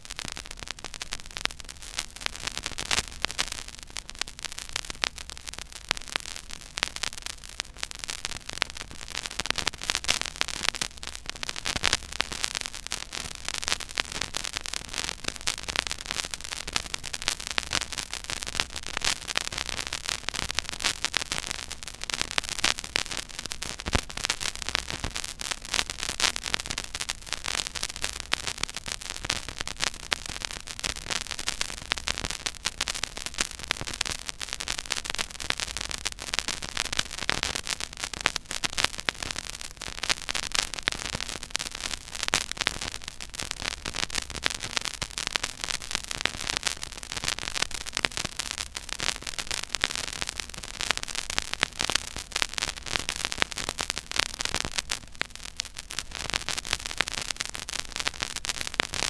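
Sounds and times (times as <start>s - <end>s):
vinyl surface hiss and crackle: 0.0s - 59.0s.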